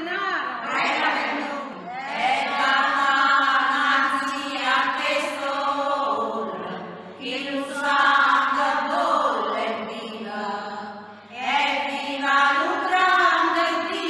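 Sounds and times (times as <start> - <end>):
choir singing held notes: 0.6 - 13.9.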